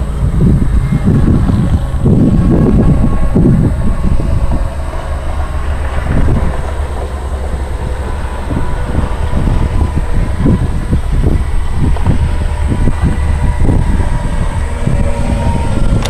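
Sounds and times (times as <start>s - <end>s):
diesel locomotive engine rumble: 0.0s - 16.0s
low buffeting: 0.0s - 16.0s.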